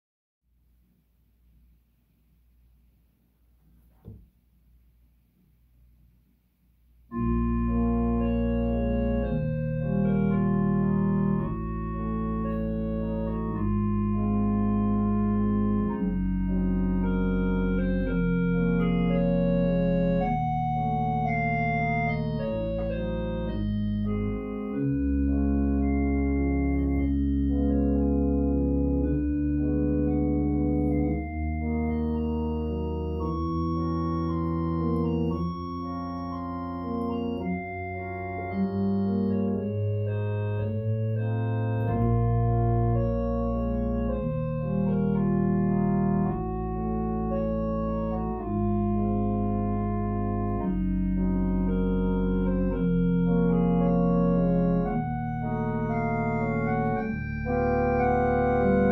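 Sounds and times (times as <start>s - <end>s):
organ playing slow chords: 7.1s - 58.9s.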